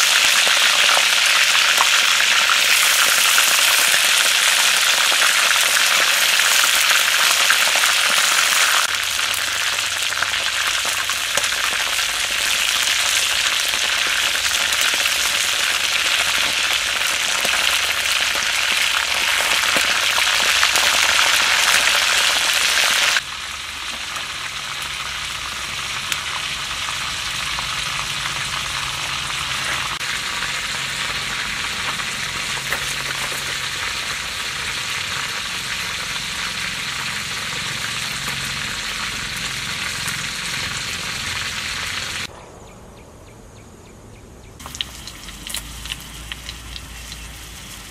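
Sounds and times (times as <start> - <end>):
deep-frying sizzle in oil: 0.0 - 42.3, 44.6 - 47.9.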